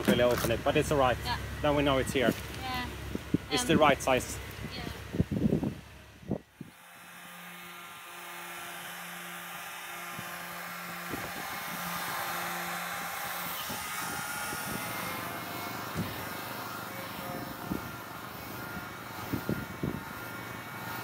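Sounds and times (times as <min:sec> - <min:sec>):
electric sander running: 0:00.0 - 0:21.0.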